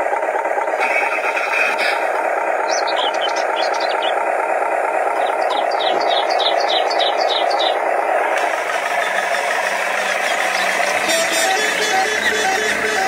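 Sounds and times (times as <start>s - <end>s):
simulated diesel engine drone: 0.0s - 13.0s.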